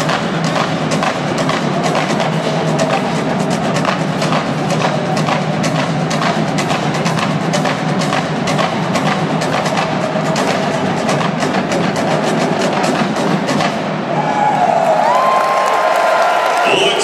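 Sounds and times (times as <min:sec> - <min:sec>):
marching drumline: 0:00.0 - 0:14.2.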